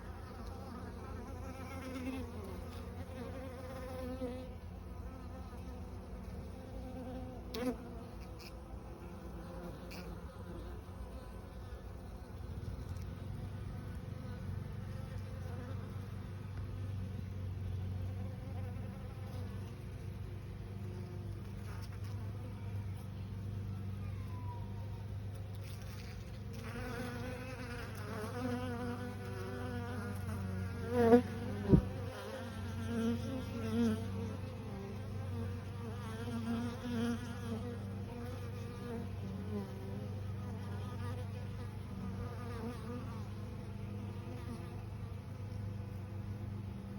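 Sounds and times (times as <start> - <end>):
honeybees buzzing: 0.0 - 22.9, 25.1 - 46.9.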